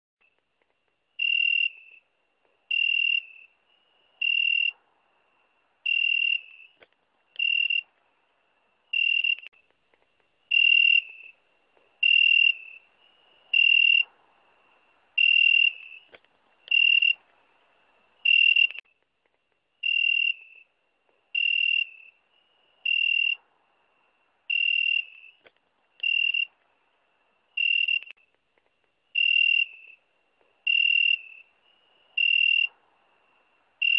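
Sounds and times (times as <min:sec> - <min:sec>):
cricket-like insect chirping: 0:00.2 - 0:33.9.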